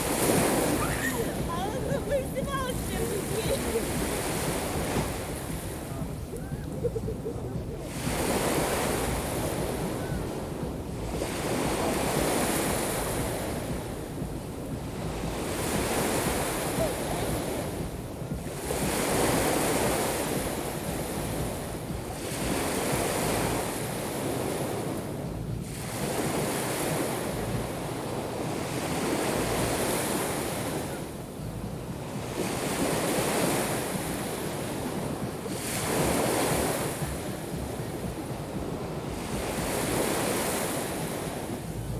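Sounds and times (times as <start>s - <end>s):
waves breaking on shore: 0.0s - 41.9s
wind rumble on microphone: 0.0s - 41.9s.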